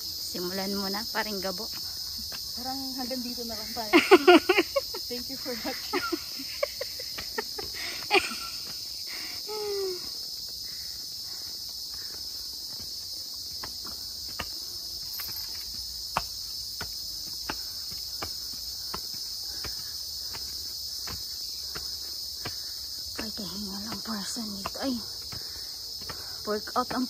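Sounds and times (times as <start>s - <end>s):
footsteps on stone steps: 0.0s - 27.0s
insect chorus: 0.0s - 27.0s.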